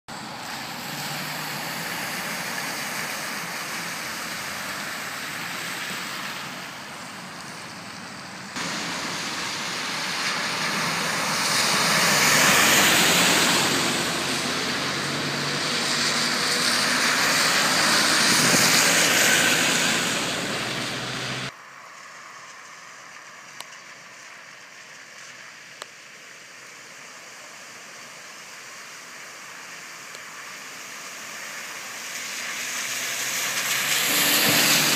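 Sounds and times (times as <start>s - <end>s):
cars driving through water: 0.1s - 34.9s
tyres hissing on wet road: 0.1s - 34.9s.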